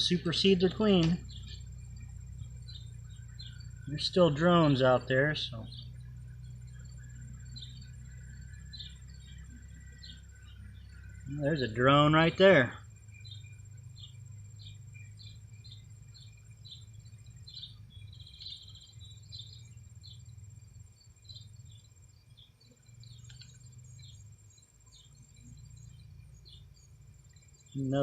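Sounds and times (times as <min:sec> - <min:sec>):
high-pitched insect whine: 0:00.0 - 0:28.0
low steady hum: 0:00.0 - 0:28.0.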